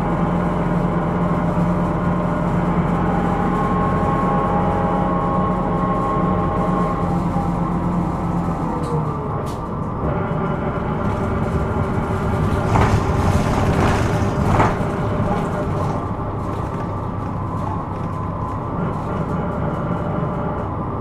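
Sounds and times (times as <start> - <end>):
bus engine hum with whining tones: 0.0 - 21.0
road rumble: 0.0 - 21.0.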